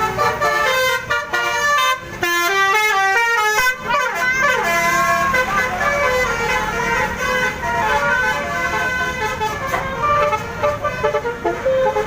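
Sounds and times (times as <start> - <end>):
multi-tone air horns playing tune: 0.0 - 12.0.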